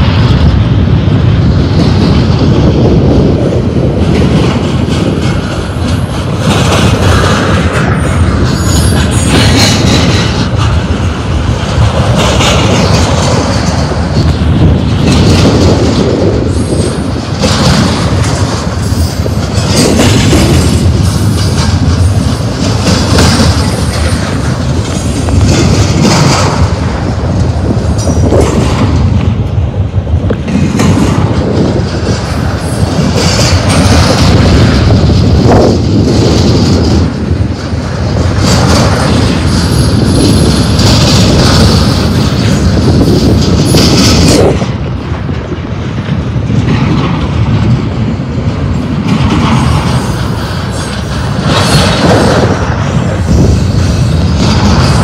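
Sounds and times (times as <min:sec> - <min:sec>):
steel wheels rumbling on rail: 0:00.0 - 0:55.0
wheel trucks clacking: 0:01.5 - 0:55.0.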